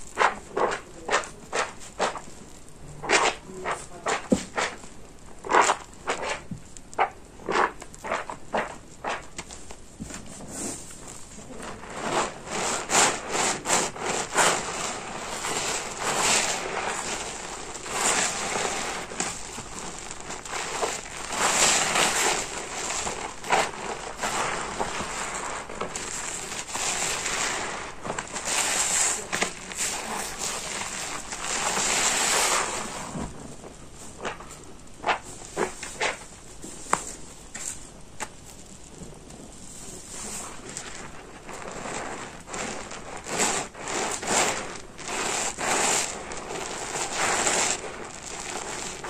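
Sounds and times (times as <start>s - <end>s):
soapy sponge squeezed crackling: 3.0s - 37.7s, 40.0s - 49.0s.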